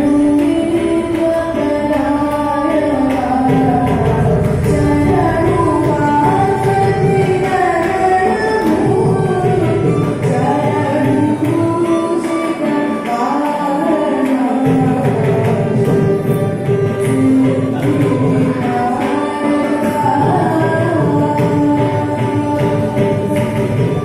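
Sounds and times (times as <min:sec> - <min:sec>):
hand drum strokes: 0:00.0 - 0:24.0
violin: 0:00.0 - 0:24.0
woman singing: 0:00.0 - 0:24.0.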